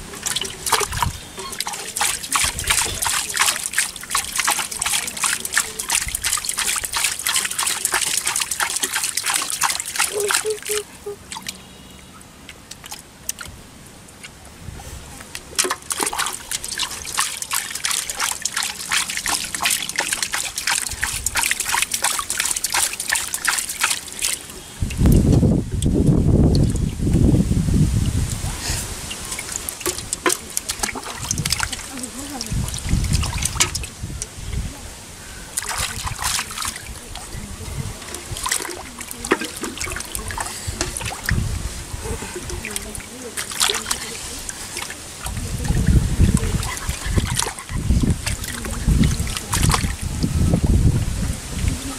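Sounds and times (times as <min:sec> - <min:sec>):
water trickling and dripping: 0:00.0 - 0:27.4, 0:28.0 - 0:34.8, 0:35.5 - 0:51.9
muddy water splashing: 0:00.0 - 0:51.9.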